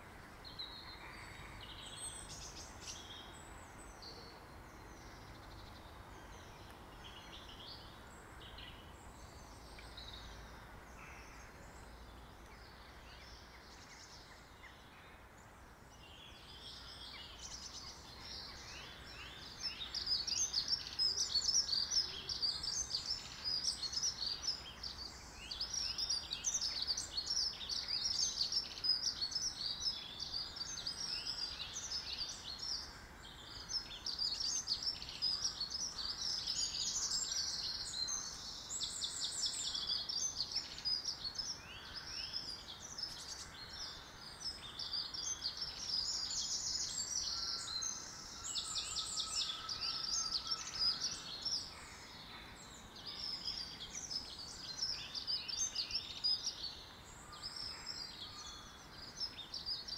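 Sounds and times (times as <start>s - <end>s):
songbirds chirping and warbling: 0.0s - 59.9s.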